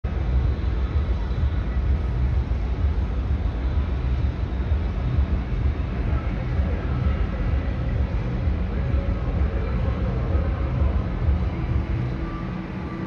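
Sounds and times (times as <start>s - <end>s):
faint steady high tones: 0.1s - 13.0s.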